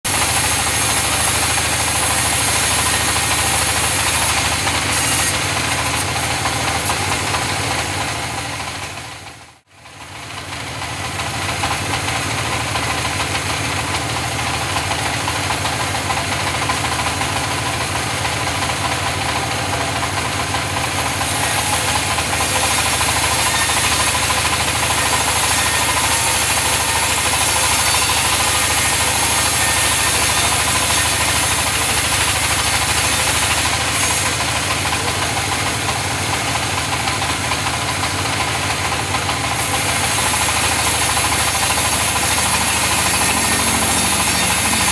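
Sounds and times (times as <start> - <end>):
engine-driven saw cutting wood: 0.0 - 44.9.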